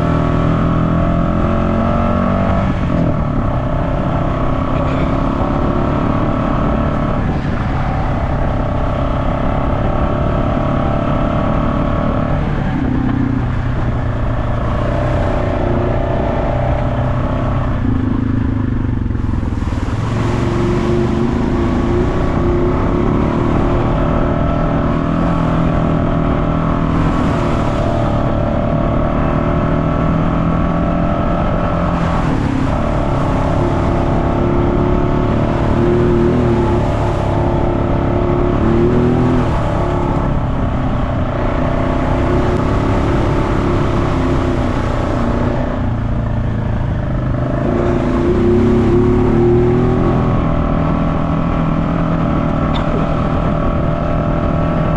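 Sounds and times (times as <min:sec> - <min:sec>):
off-road vehicle engine running: 0:00.0 - 0:54.9.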